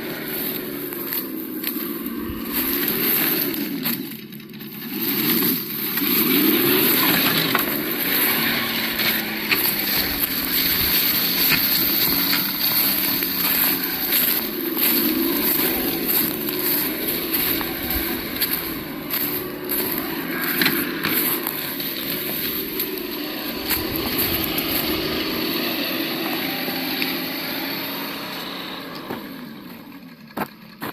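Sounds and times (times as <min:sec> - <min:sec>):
rough rolling noise: 0:00.0 - 0:30.9.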